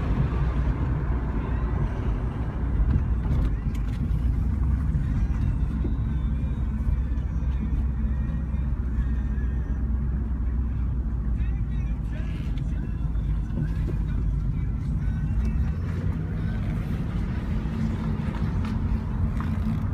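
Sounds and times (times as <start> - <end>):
car engine rumble from inside: 0.0 - 19.9.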